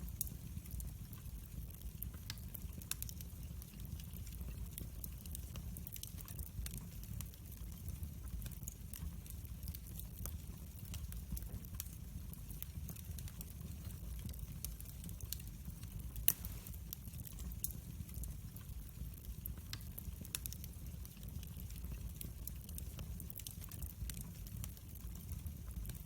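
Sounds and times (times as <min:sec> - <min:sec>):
burning wood crackling and popping: 0:00.0 - 0:26.0
fire flames rumbling: 0:00.0 - 0:26.0.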